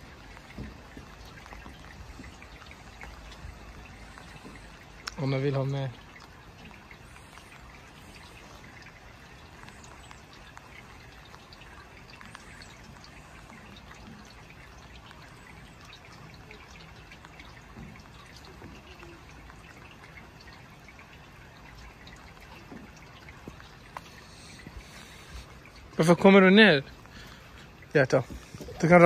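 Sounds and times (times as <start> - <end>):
light rain falling: 0.0 - 29.0
water dripping: 0.0 - 29.0.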